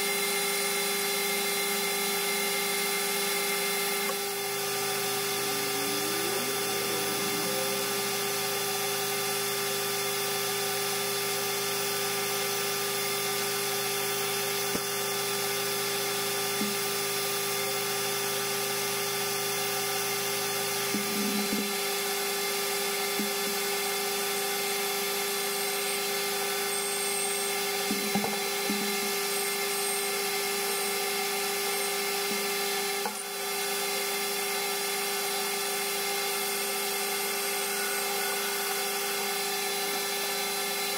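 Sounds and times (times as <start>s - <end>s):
metal lathe humming and whining: 0.0s - 40.9s.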